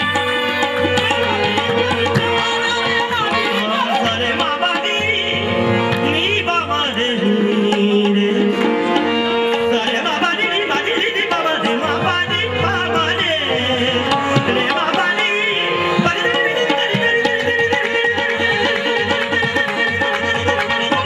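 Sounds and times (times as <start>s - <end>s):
harmonium drone and melody: 0.0s - 21.0s
percussion rhythm: 0.0s - 21.0s.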